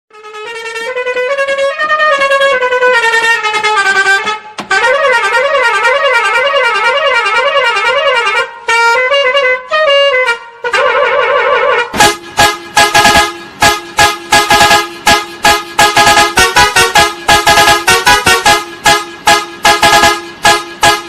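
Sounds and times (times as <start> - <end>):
musical air horn playing tune: 0.1 - 21.0.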